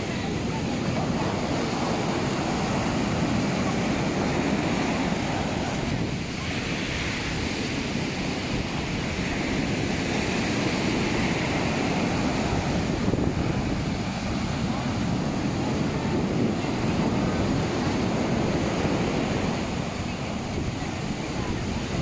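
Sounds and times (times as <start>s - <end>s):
waves breaking on beach: 0.0s - 22.0s.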